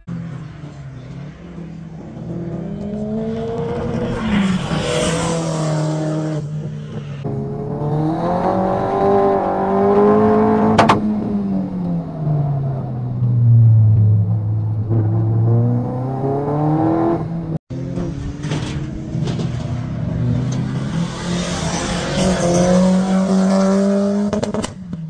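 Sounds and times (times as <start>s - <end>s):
race car engine revving: 0.1s - 24.8s.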